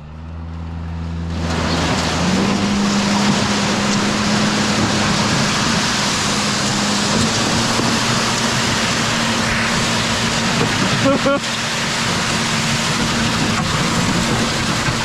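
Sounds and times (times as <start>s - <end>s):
boat motor running: 0.0s - 15.0s
rushing water and wind: 1.3s - 15.0s.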